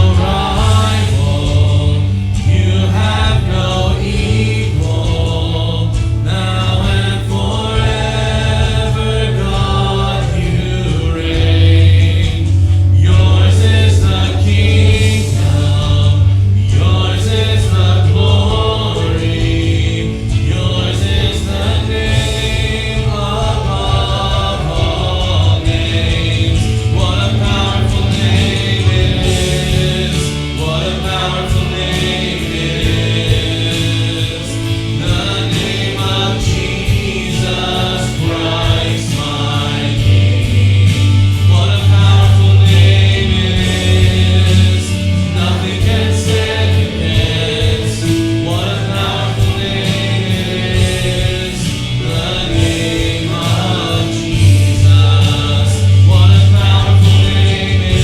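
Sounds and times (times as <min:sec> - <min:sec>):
group of voices singing: 0:00.0 - 0:58.0
worship band with bass: 0:00.0 - 0:58.0.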